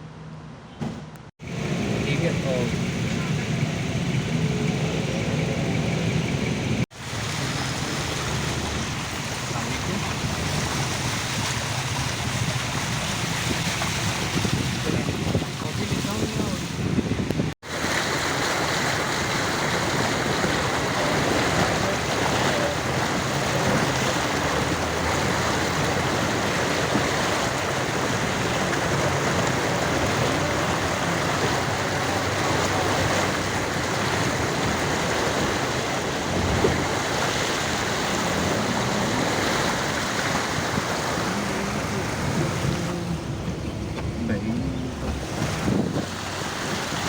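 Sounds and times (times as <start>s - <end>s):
car splashing through water: 0.8s - 47.0s.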